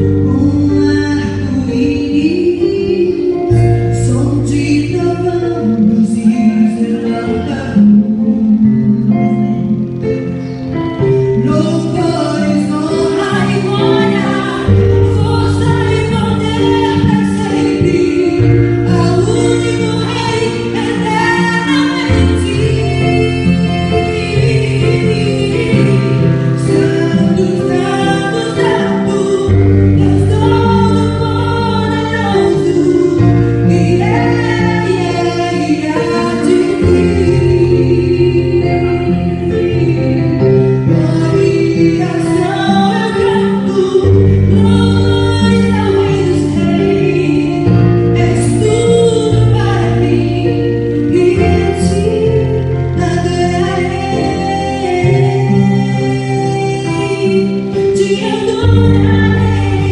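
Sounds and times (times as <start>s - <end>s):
sustained bass notes: 0.0s - 59.9s.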